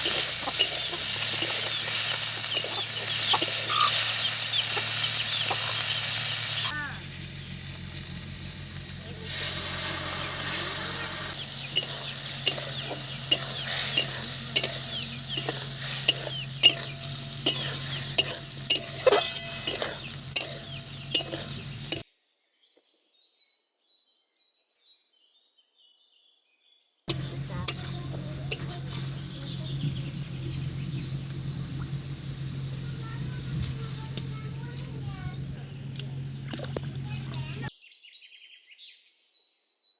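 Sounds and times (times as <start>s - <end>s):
food sizzling in a frying pan: 0.0s - 22.0s, 27.1s - 37.7s
spatula scraping a pan: 0.0s - 22.0s, 27.1s - 37.7s.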